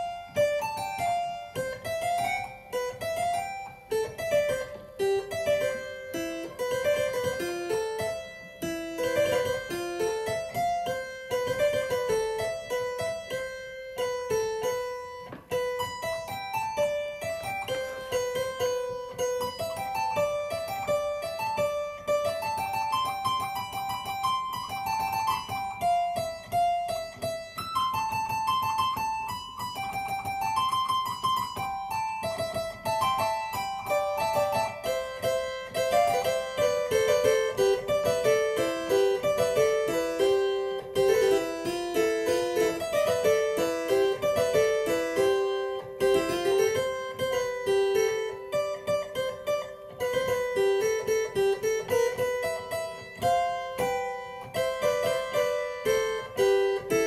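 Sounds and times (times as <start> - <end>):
harpsichord playing: 0.0 - 57.0.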